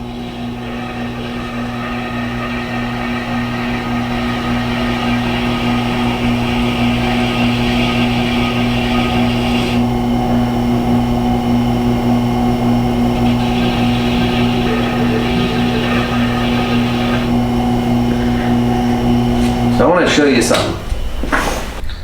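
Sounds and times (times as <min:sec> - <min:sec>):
blade hissing on honing wheel: 0:00.0 - 0:21.8
sharpener motor humming: 0:00.0 - 0:21.8.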